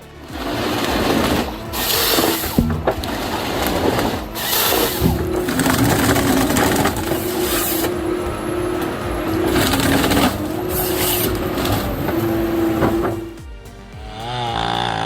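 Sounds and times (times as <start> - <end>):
wood cracking and crushing: 0.0 - 13.4
heavy machine droning: 0.0 - 15.0.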